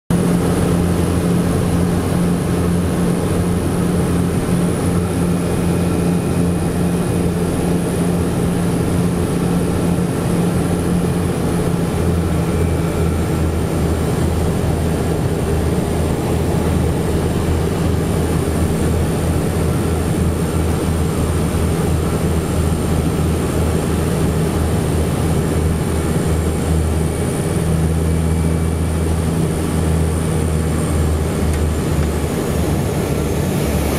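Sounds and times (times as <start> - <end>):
propeller engines droning: 0.1 - 33.9.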